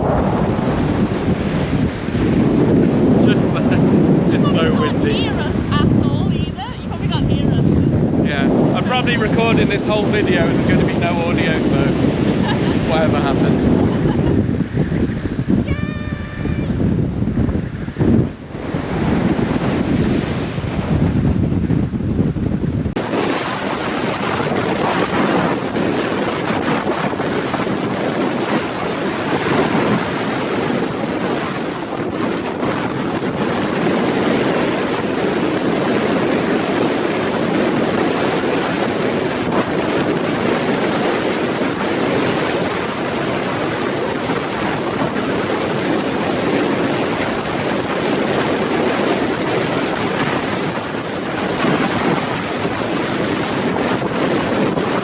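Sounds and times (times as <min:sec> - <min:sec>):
strong wind on microphone: 0:00.0 - 0:55.0.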